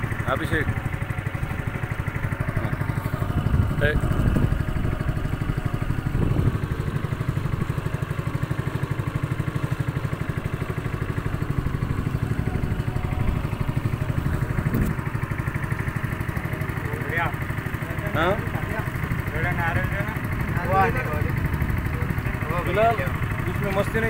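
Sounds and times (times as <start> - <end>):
boat engine running steadily: 0.0 - 24.0.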